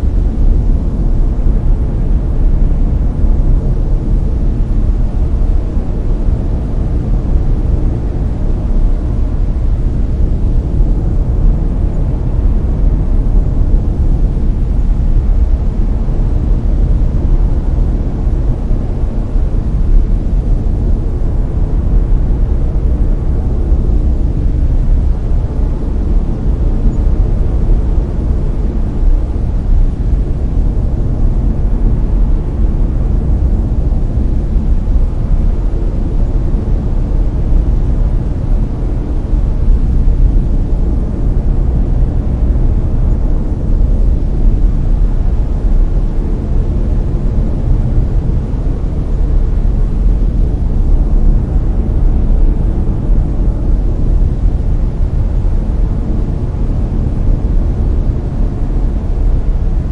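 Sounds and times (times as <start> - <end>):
brown noise: 0.0 - 59.9.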